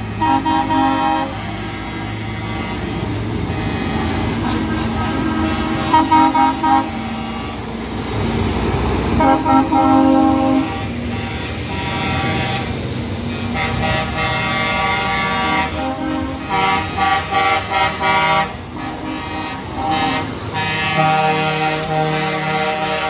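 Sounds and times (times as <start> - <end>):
truck horn blasts: 0.0 - 7.9, 9.1 - 23.0
diesel truck engines running: 0.0 - 23.0.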